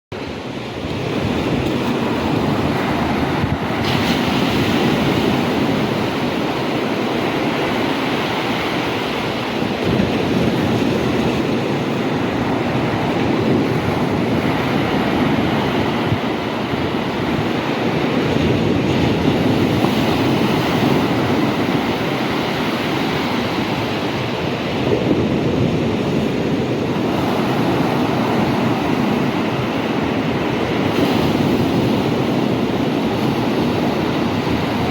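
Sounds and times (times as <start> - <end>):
sea waves breaking on shore: 0.2 - 34.9.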